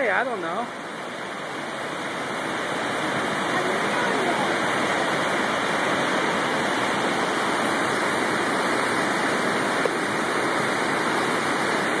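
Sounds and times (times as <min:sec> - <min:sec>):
water rushing from a dam: 0:00.0 - 0:12.0.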